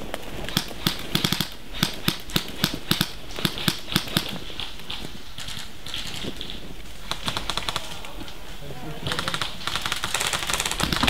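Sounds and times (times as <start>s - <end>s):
airsoft rifle shots: 0.4s - 8.2s, 9.0s - 11.0s.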